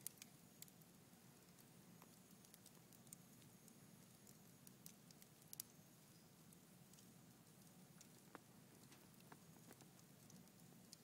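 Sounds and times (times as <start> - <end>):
logs crackling in fireplace: 0.0 - 11.0
sharp pops of burning wood: 0.0 - 11.0.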